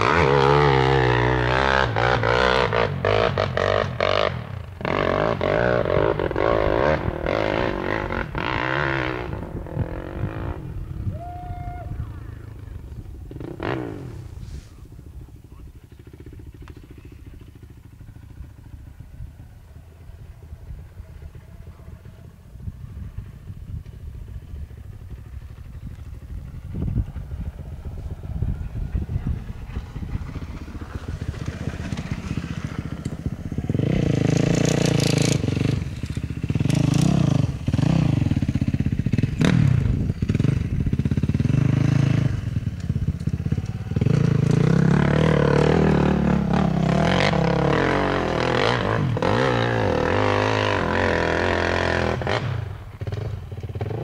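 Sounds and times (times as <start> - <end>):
dirt bike engine revving: 0.0 - 11.1, 12.0 - 22.2, 24.3 - 54.0.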